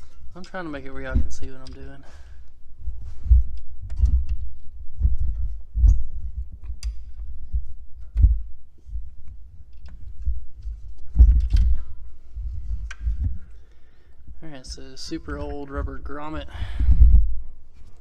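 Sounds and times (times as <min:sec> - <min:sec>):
microphone handling thumps: 0:01.0 - 0:18.0.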